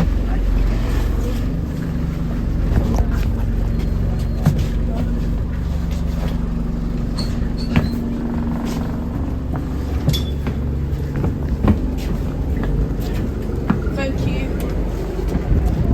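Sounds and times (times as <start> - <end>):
bus engine droning: 0.0 - 15.9
rattles and knocks: 0.0 - 15.9.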